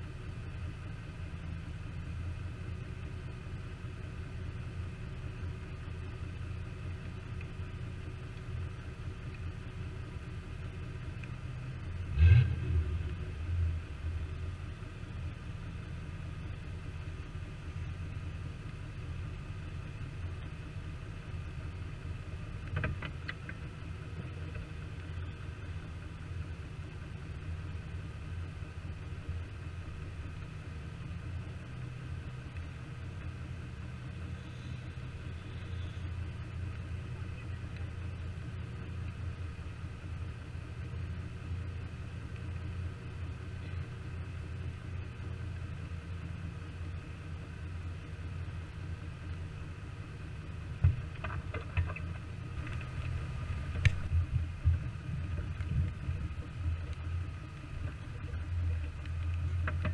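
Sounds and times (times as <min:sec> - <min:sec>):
off-road vehicle engine rumbling: 0:00.0 - 0:59.9.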